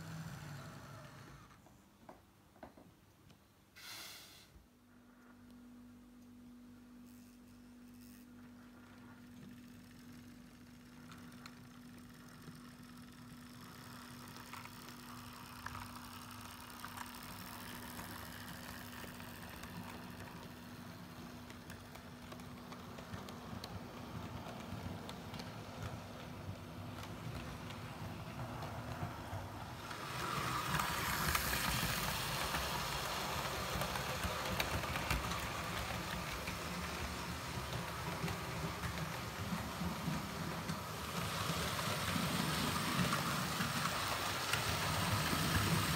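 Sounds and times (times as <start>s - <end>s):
model train motor hum: 0.0s - 1.6s, 8.0s - 45.9s
wheels clicking on rails: 8.5s - 45.9s.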